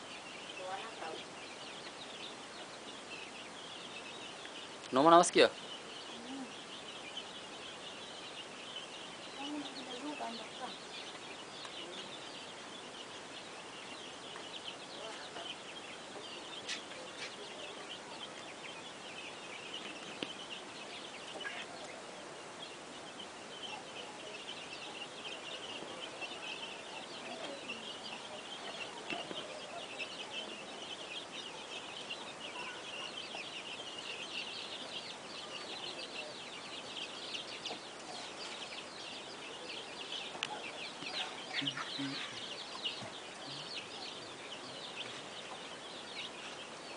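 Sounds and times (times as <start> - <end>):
flock of chickens calling: 0.0 - 46.9.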